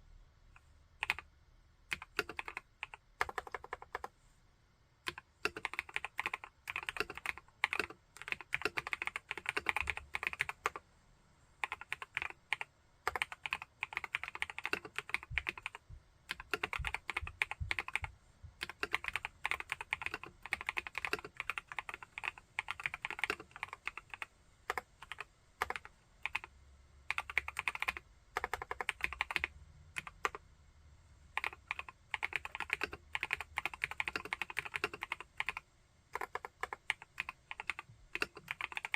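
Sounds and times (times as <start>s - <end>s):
mechanical keyboard typing: 1.0s - 1.3s, 1.9s - 4.1s, 5.0s - 10.8s, 11.6s - 26.5s, 27.1s - 30.4s, 31.3s - 38.9s.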